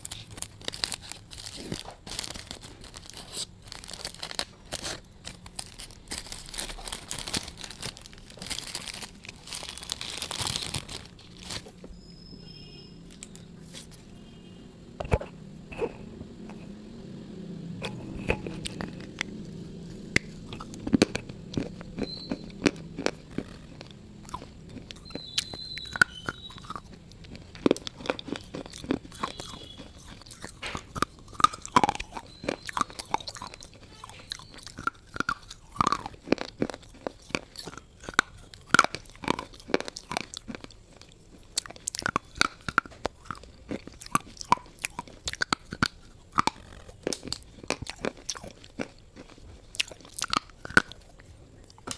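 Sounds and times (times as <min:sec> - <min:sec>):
person crunching something hard: 0:00.0 - 0:11.9, 0:17.8 - 0:51.9.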